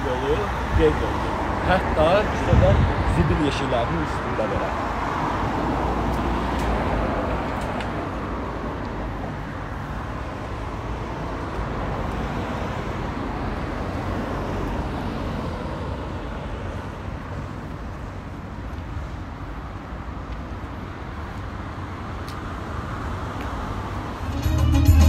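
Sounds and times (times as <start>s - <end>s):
city road traffic: 0.0s - 25.0s.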